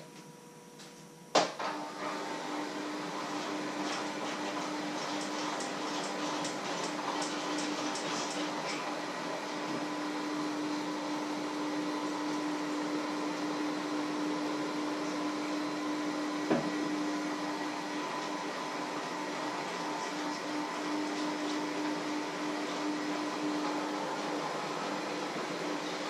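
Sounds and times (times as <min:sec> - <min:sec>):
electric hand mixer whirring: 0:01.7 - 0:26.0.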